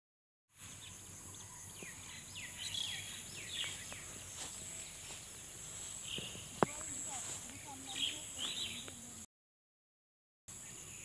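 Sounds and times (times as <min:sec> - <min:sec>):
birds chirping: 0:00.6 - 0:09.3, 0:10.5 - 0:11.0.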